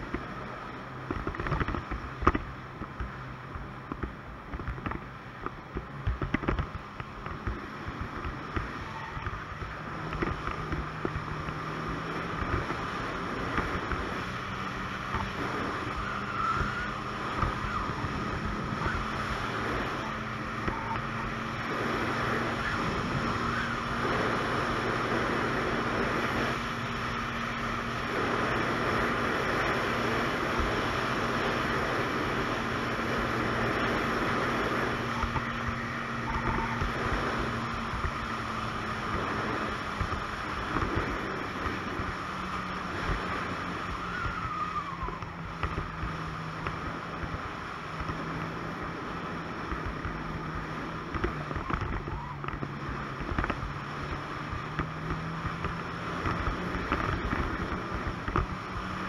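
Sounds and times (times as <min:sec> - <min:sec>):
snowmobile engine running: 0:00.0 - 0:59.0
wind on microphone: 0:00.0 - 0:59.0.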